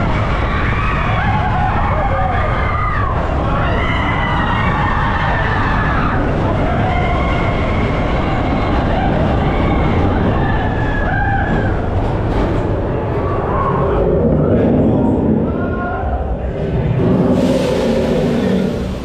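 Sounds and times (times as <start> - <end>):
roller coaster wheels rumbling: 0.0 - 19.0.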